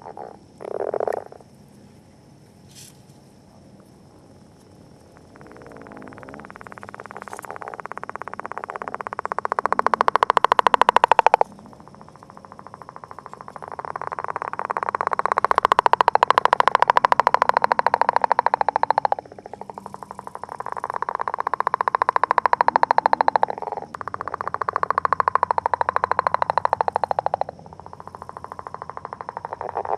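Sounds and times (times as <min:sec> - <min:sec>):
frog calls: 0:00.0 - 0:01.5, 0:04.1 - 0:29.9.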